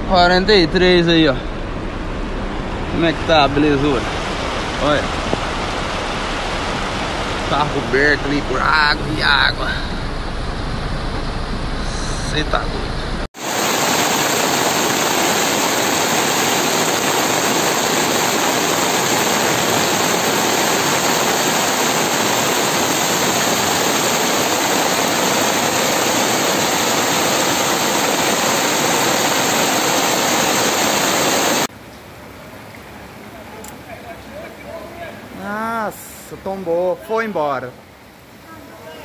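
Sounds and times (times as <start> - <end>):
floodwater rushing across street: 0.4 - 10.0, 13.3 - 39.0
heavy rain: 0.5 - 11.8, 13.2 - 39.0.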